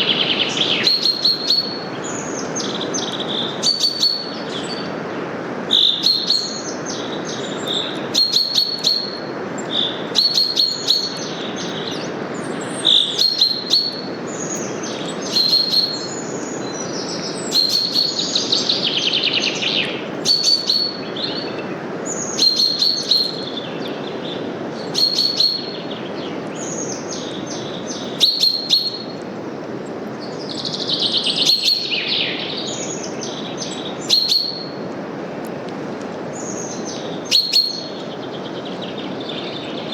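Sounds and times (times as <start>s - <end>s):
songbirds chirping: 0.0s - 39.9s
wind through leaves: 0.0s - 39.9s.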